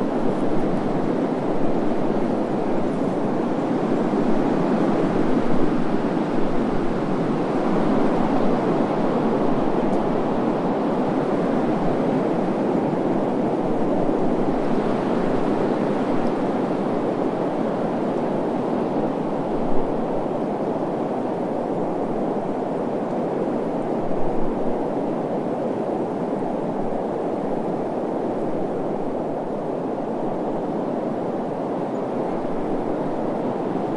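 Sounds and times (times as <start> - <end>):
wind blowing: 0.0 - 33.9
wind gusts hitting microphone: 0.0 - 33.9.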